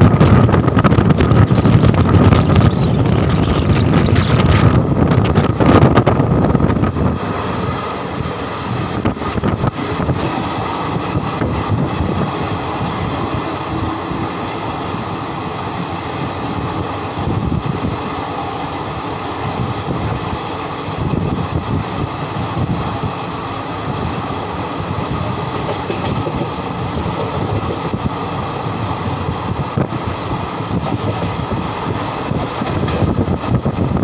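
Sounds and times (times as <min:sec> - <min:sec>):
sharp clicks of train: 0:00.0 - 0:02.5, 0:03.8 - 0:06.9, 0:07.5 - 0:34.0
train rumbling and rattling: 0:00.0 - 0:34.0
wind buffeting microphone: 0:00.0 - 0:34.0.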